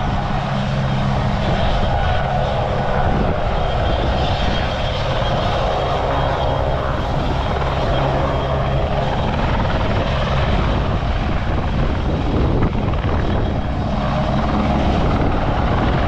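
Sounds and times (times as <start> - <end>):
helicopter turbines and rotors roaring: 0.0 - 16.0.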